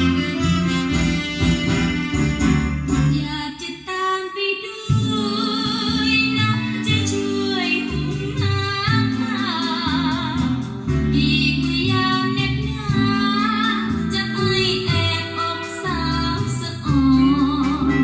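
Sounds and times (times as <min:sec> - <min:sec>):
bass and guitar: 0:00.0 - 0:03.5, 0:04.9 - 0:18.0
woman singing with vibrato: 0:03.1 - 0:18.0.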